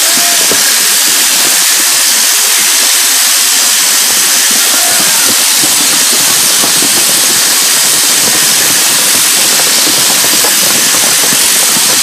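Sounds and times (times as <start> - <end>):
sheep-shearing handpiece buzzing: 0.0 - 12.0.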